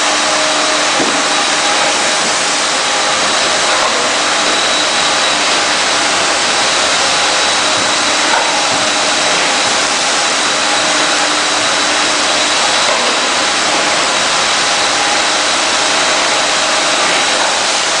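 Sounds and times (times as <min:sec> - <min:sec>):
rug washing machine running: 0:00.0 - 0:18.0.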